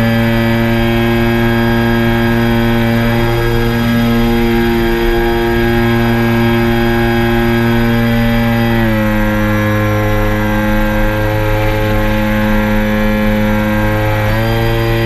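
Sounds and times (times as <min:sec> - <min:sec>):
drone propellers humming loudly: 0:00.0 - 0:15.0.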